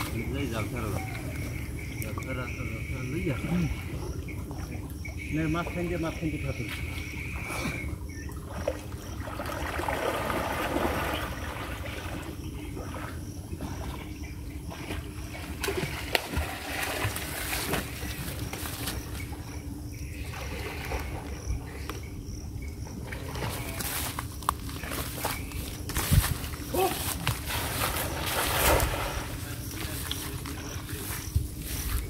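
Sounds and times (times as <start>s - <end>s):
water sloshing and splashing: 0.0s - 21.9s, 22.5s - 32.0s.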